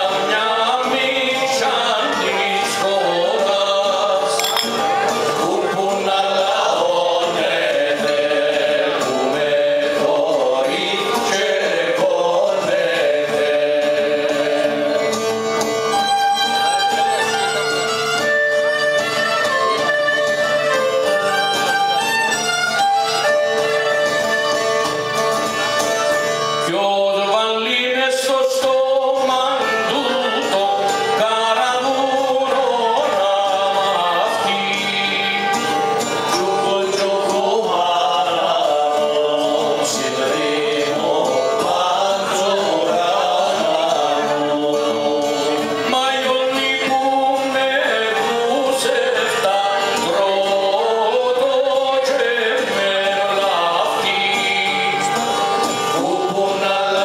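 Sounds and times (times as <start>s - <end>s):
man singing: 0.0s - 15.4s, 26.4s - 57.0s
violin and lute folk melody: 0.0s - 57.0s.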